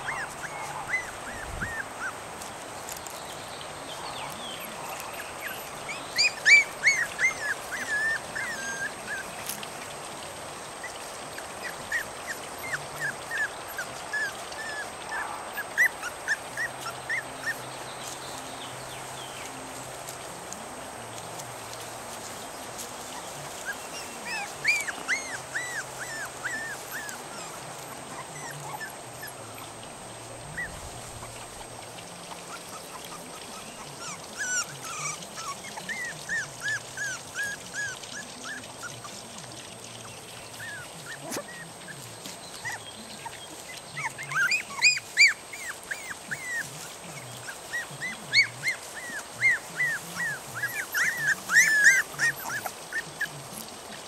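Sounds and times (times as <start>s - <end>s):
puppies whimpering: 0.0s - 3.2s, 3.9s - 54.0s.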